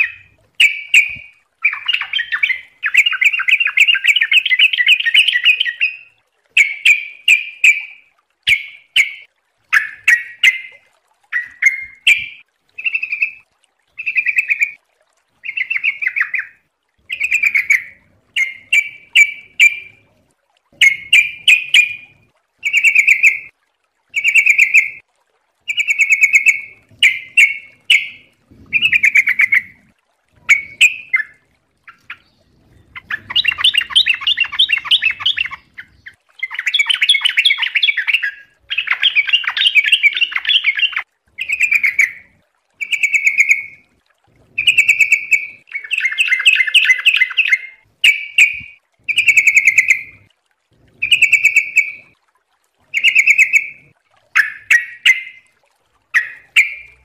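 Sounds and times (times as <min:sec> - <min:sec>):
bulbul singing warbled phrases: 0:00.0 - 0:13.4, 0:15.4 - 0:20.1, 0:20.8 - 0:23.5, 0:25.7 - 0:43.8, 0:44.6 - 0:50.2, 0:51.0 - 0:52.1, 0:52.9 - 0:55.5.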